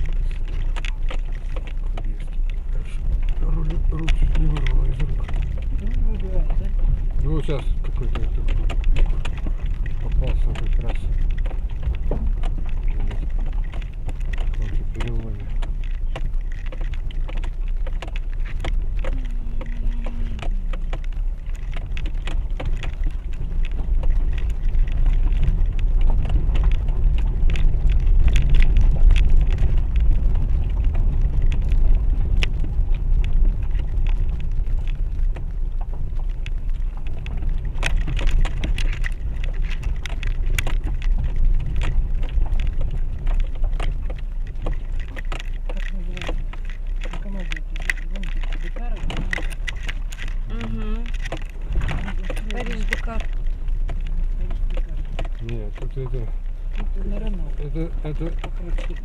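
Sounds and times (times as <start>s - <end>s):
rattles and knocks: 0.0s - 59.0s
tyres rumbling on dirt road: 0.0s - 59.0s.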